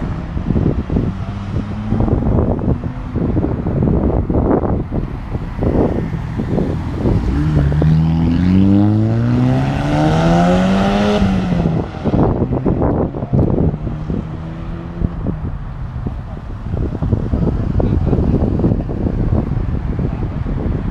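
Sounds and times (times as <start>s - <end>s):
car engine accelerating: 0.0s - 20.9s
exhaust rumble: 0.0s - 20.9s.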